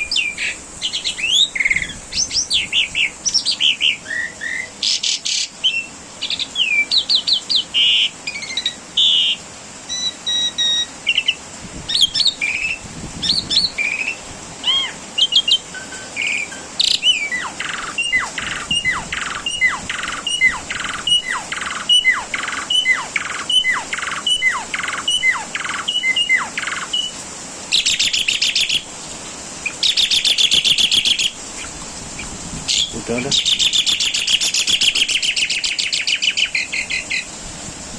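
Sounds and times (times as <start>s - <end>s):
starling singing: 0.0s - 28.9s, 29.5s - 37.3s.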